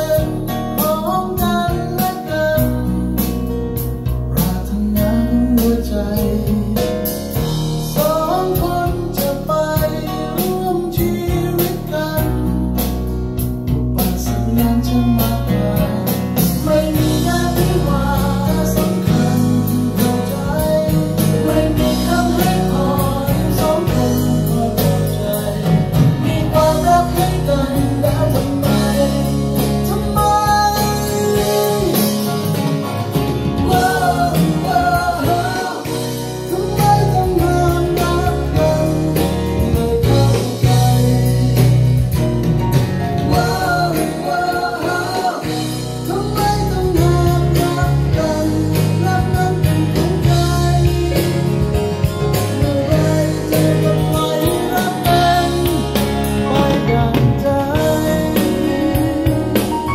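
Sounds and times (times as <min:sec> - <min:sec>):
song with singing and guitar: 0:00.0 - 0:59.9.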